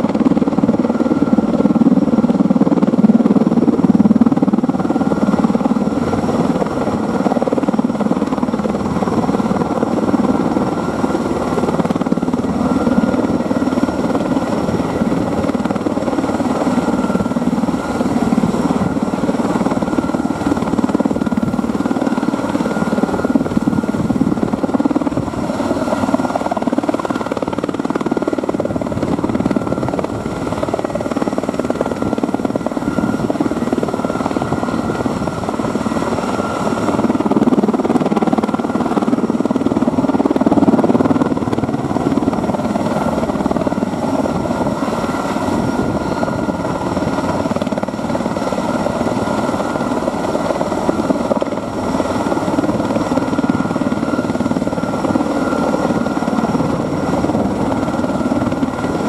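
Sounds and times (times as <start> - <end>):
helicopter rotor and turbine noise: 0.0 - 59.0
high turbine whine: 0.0 - 59.0.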